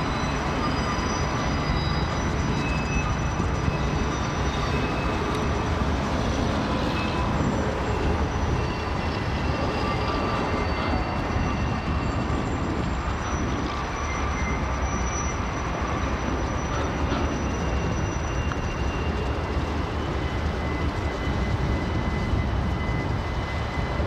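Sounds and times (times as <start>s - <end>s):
high thin squeals: 0.0s - 21.2s
train wheels rumbling on rail: 0.0s - 24.0s.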